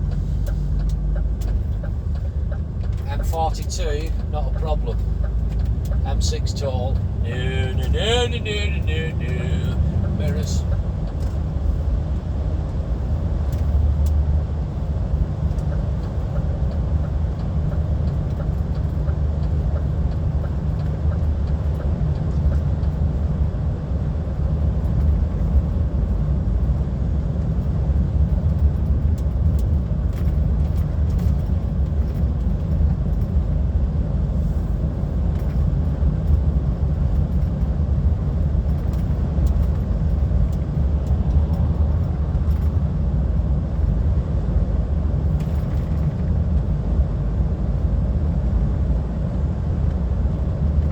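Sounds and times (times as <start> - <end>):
lorry diesel engine drone: 0.0 - 50.9
road noise: 0.0 - 50.9.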